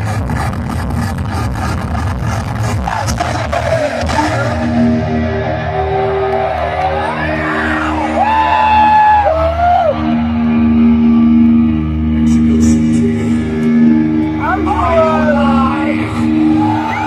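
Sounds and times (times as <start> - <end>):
live rock music: 0.0 - 17.0
crowd yelling: 3.1 - 17.0.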